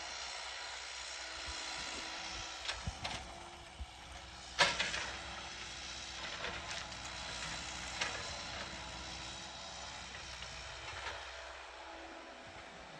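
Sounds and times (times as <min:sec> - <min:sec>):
excavator running: 0:00.0 - 0:12.9.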